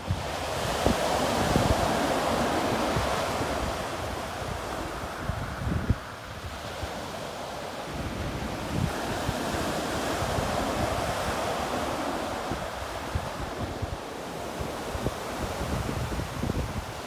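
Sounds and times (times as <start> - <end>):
surf washing on pebble beach: 0.0 - 17.0
wind buffeting microphone: 0.0 - 17.0.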